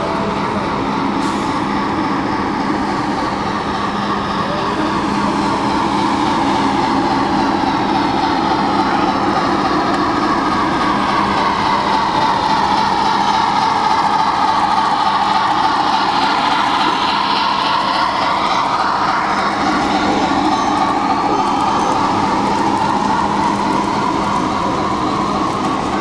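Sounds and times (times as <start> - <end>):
steam locomotive sounds from speaker: 0.0 - 26.0.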